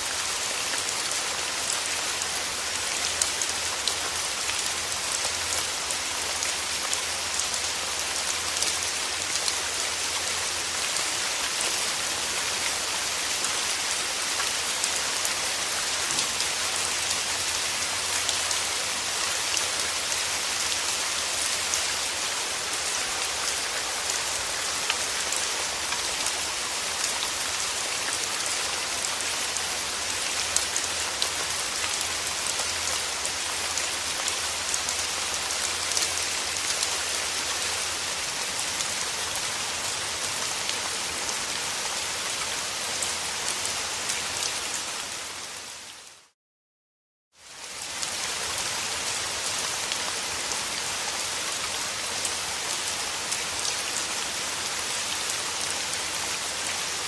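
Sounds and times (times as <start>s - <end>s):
steady rain: 0.0s - 46.4s, 47.3s - 57.0s.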